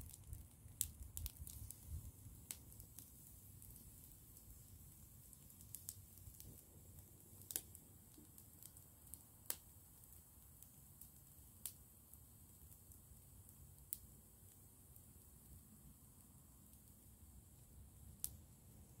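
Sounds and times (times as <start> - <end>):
small wood fire crackling: 0.0 - 19.0.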